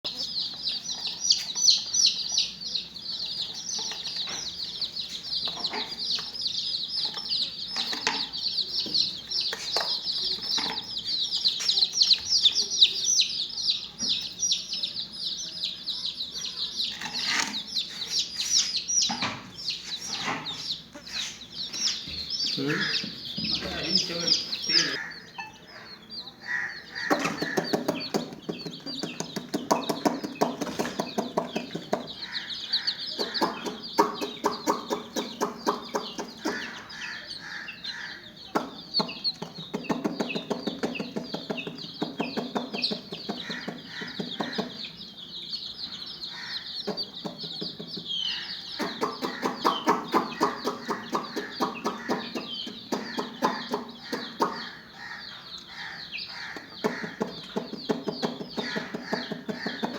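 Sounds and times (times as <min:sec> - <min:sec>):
chickens clucking: 0:00.0 - 0:59.9
chicks peeping: 0:00.0 - 0:59.9.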